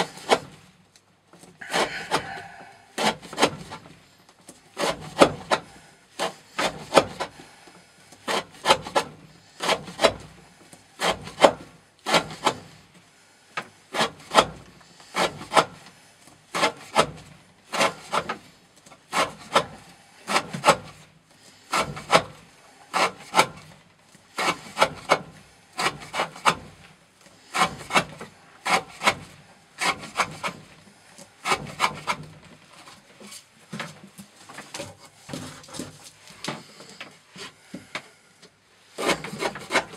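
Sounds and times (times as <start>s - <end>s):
knife sawing through rope: 0.0s - 0.6s, 1.6s - 4.0s, 4.7s - 12.9s, 13.8s - 33.5s, 34.2s - 37.7s, 38.8s - 39.9s.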